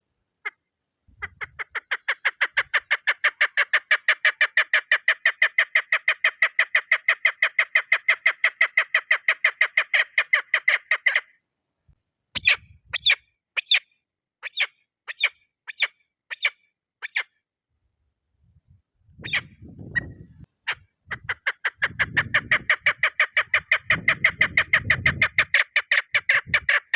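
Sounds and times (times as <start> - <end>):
partridge calling: 0.4 - 11.4, 12.4 - 17.4, 19.2 - 26.9.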